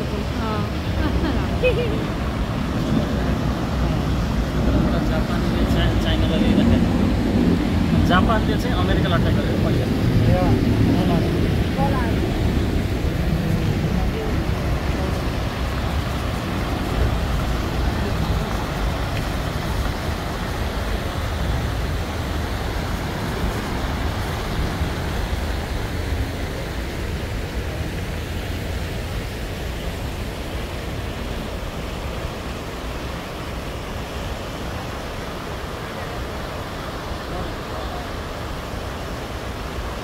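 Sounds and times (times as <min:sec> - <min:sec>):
fountain water splashing into pool: 0:00.0 - 0:40.0.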